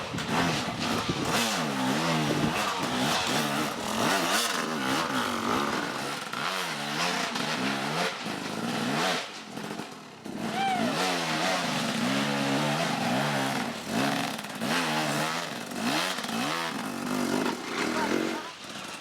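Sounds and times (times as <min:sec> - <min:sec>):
engine revving up and down: 0:00.0 - 0:19.0.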